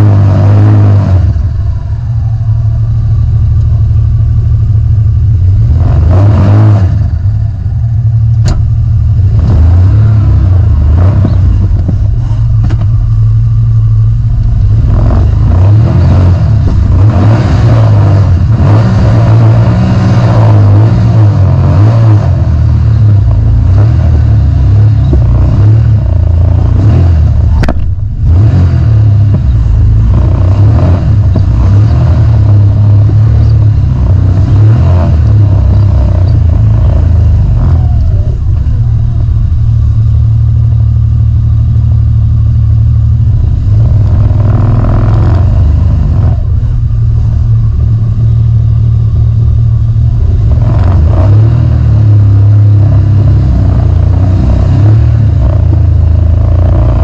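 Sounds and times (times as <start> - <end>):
utility vehicle engine droning: 0.0 - 57.0.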